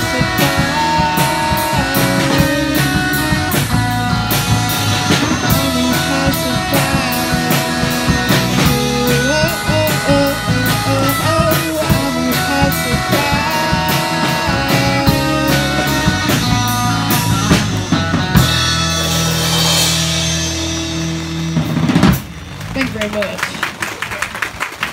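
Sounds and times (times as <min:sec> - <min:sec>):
drumbeat: 0:00.0 - 0:23.7
electric guitar: 0:00.0 - 0:23.8
bass guitar: 0:00.0 - 0:24.5.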